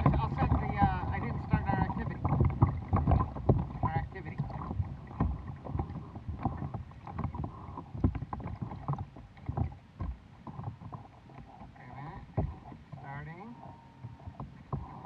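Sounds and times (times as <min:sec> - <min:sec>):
paddle pulling through water: 0:00.0 - 0:15.0
water slapping kayak hull: 0:00.0 - 0:15.0
water splashes and drips: 0:00.0 - 0:15.0.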